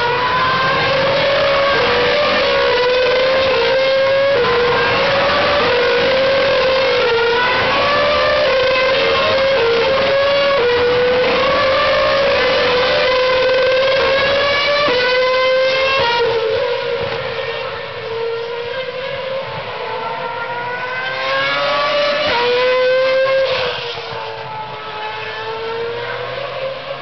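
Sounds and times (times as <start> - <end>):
racing cars accelerating past: 0.0 - 27.0.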